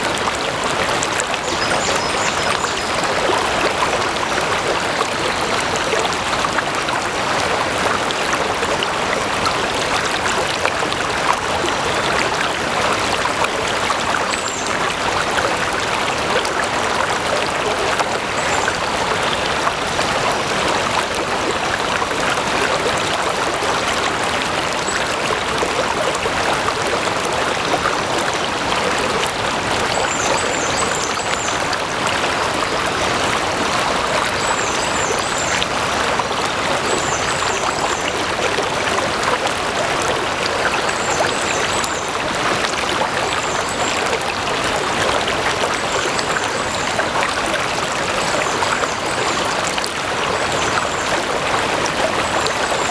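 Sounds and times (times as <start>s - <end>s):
stream water flowing: 0.0s - 52.9s.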